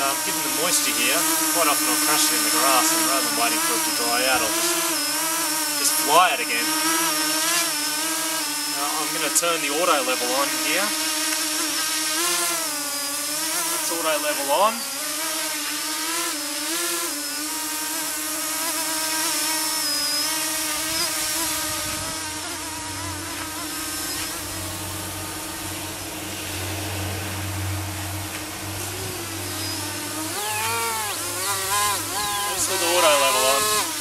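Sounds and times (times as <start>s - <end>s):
drone motors and propellers whining: 0.0s - 34.0s.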